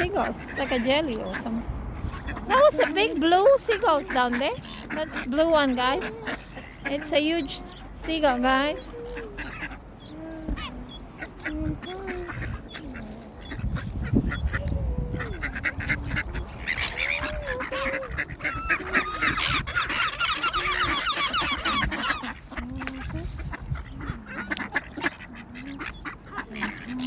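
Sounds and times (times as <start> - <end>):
ducks quacking: 0.0 - 27.0
gulls calling: 0.0 - 27.0.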